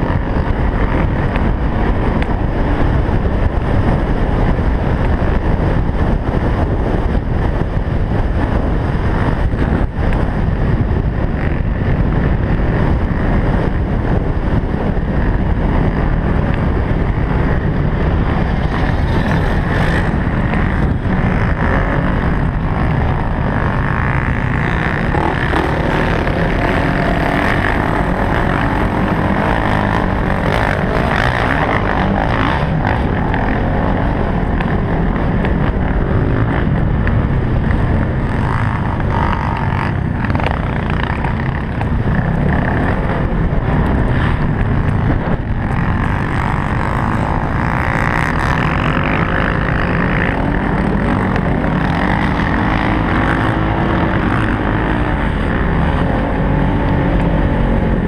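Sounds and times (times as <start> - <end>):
quad engine running at speed: 0.0 - 58.0
wind buffeting microphone: 0.0 - 58.0.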